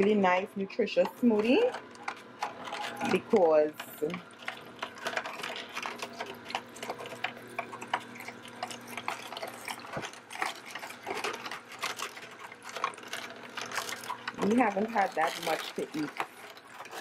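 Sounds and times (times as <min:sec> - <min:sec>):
juicer motor hum: 0:00.0 - 0:17.0
vegetables crunching: 0:01.1 - 0:17.0.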